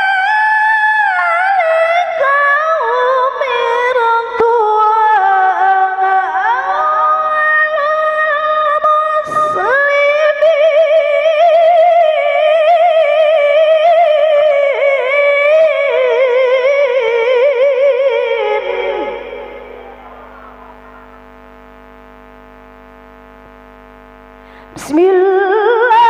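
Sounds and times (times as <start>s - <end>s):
woman reciting melodically: 0.0s - 21.2s, 24.6s - 26.0s.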